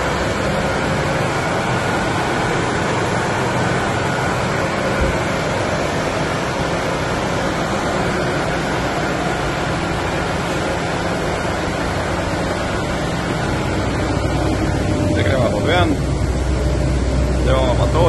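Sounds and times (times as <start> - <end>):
gas burner humming: 0.0 - 18.0.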